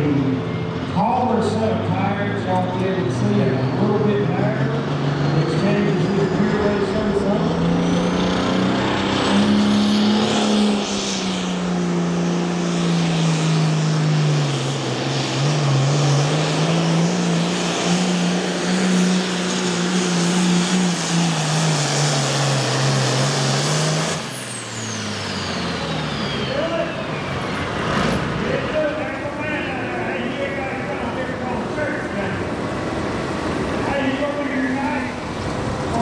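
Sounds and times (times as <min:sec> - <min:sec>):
high turbo whine: 0:00.0 - 0:36.0
tractor diesel engine at full throttle: 0:00.0 - 0:36.0.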